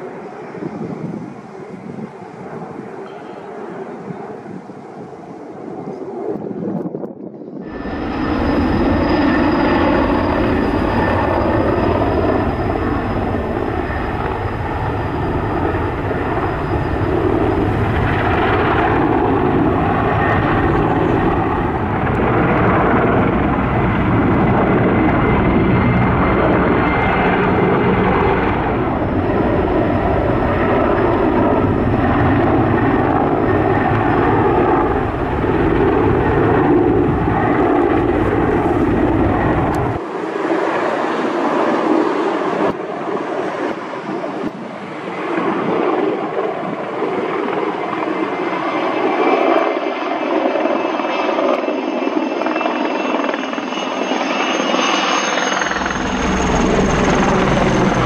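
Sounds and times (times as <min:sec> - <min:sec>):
faint turbine whine: 0:00.0 - 0:58.0
helicopter rotor rumble: 0:00.0 - 0:58.0.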